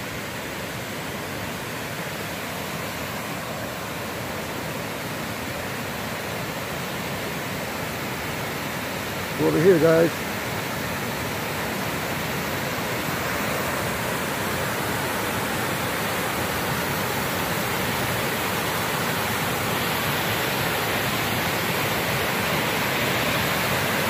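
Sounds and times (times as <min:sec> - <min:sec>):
waterfall and river rushing: 0:00.0 - 0:24.0.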